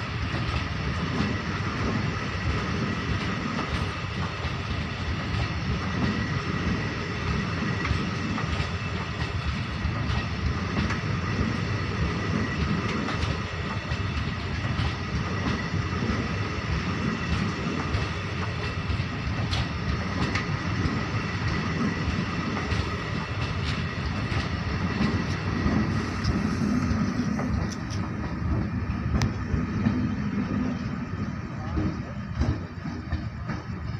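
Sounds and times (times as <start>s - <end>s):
clickety-clack over rail joints: 0.0s - 33.9s
train wheels rumbling on rail: 0.0s - 33.9s.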